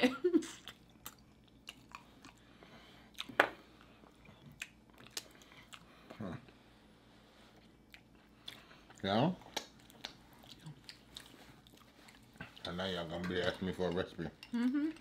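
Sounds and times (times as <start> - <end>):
people chewing food: 0.4 - 15.0.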